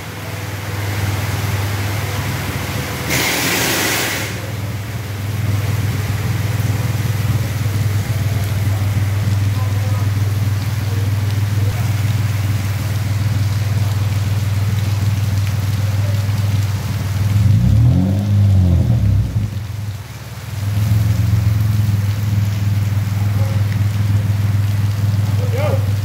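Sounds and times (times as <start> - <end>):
car engine idling: 0.0 - 26.0
car engine revving: 0.2 - 26.0.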